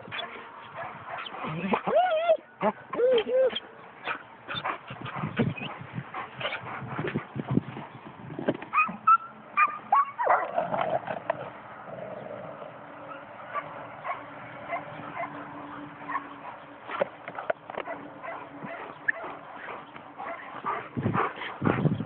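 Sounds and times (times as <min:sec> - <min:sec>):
dogs whining and yipping: 0:00.1 - 0:07.2, 0:08.7 - 0:11.1, 0:13.0 - 0:16.8, 0:17.4 - 0:22.0.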